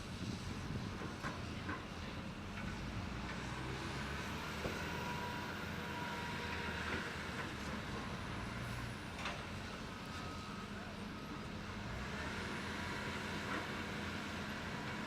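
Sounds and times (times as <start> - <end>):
excavator diesel engine running: 0.1 - 15.0.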